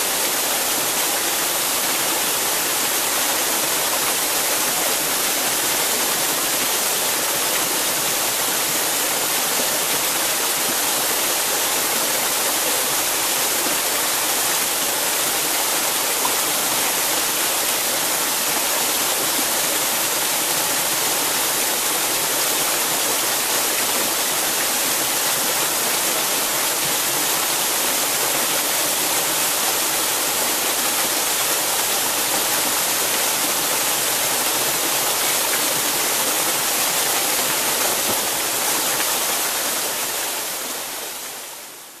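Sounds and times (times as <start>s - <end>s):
waterfall pouring into pool: 0.0s - 42.0s.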